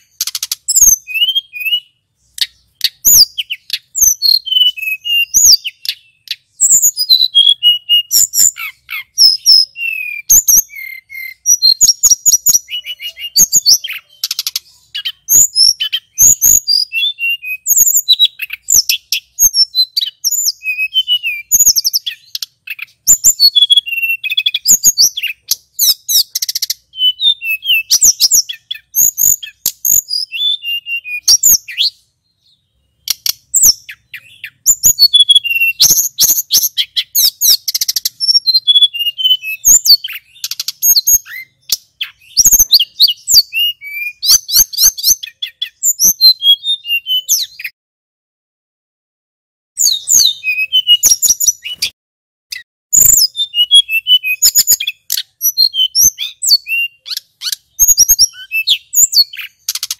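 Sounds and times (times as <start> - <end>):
bird singing whistled trills: 0.0 - 47.8, 49.8 - 59.9.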